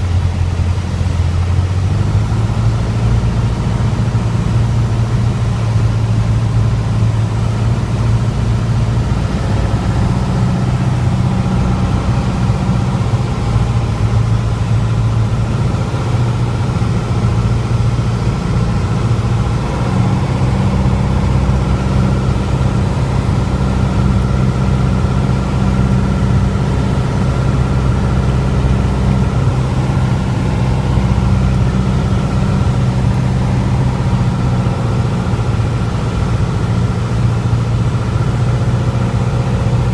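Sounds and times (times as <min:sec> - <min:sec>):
propeller aircraft engine droning: 0:00.0 - 0:39.9.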